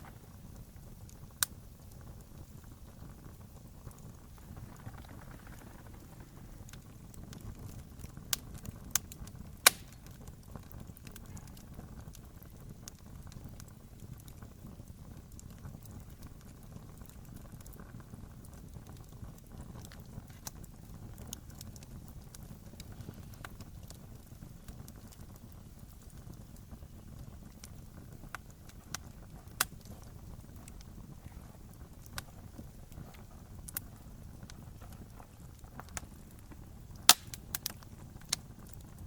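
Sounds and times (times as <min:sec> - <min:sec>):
fire popping: 0:00.0 - 0:39.0
wood fire crackling: 0:00.0 - 0:39.0.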